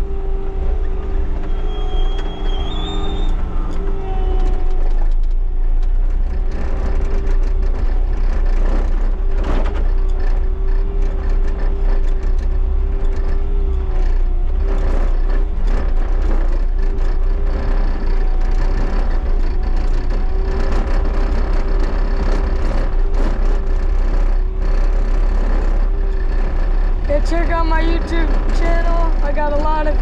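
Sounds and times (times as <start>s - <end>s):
diesel engine running under load: 0.0s - 30.0s
steady whine: 0.0s - 30.0s
machine rattling clatter: 0.7s - 30.0s.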